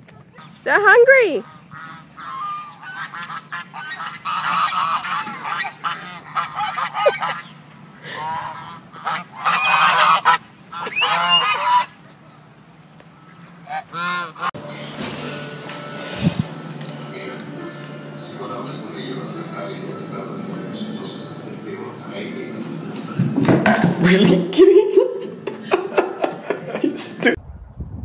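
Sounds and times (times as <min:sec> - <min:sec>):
geese honking: 0:00.1 - 0:24.6.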